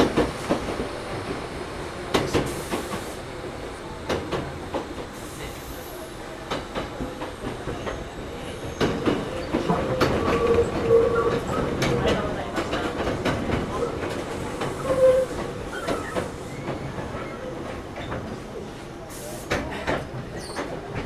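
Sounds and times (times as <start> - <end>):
train rolling noise: 0.0 - 21.0.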